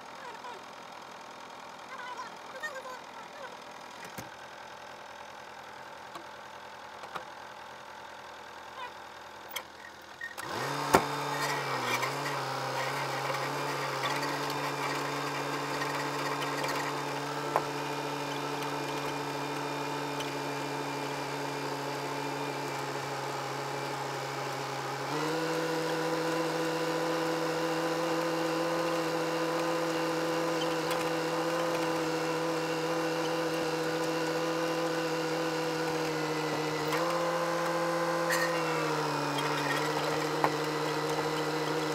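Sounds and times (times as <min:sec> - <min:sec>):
tractor diesel engine revving: 0:00.0 - 0:41.9.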